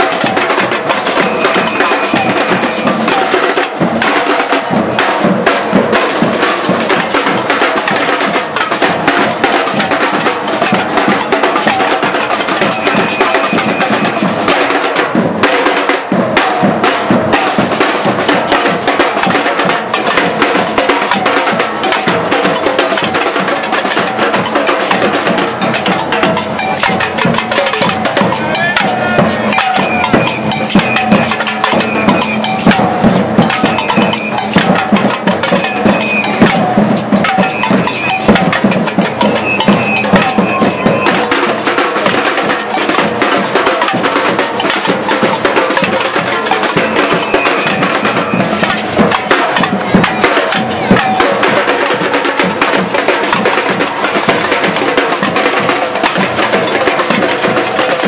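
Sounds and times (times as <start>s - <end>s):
drum group playing: 0.0s - 58.0s.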